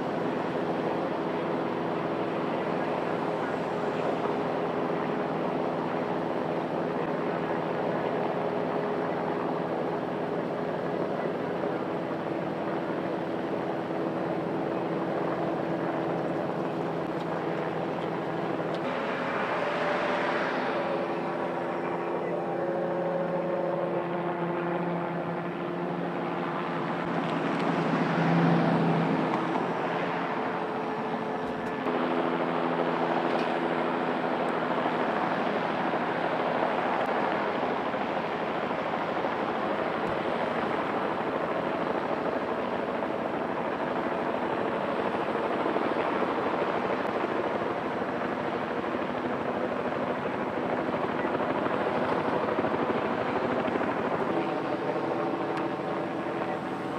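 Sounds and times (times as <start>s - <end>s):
helicopter turbine and rotor: 0.0s - 56.9s.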